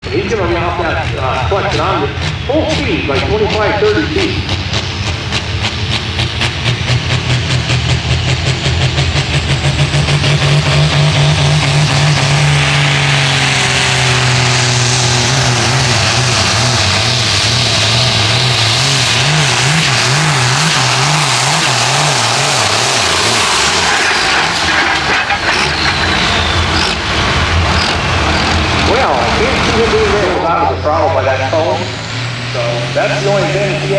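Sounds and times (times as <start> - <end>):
tractor engine at full throttle: 0.0 - 33.9.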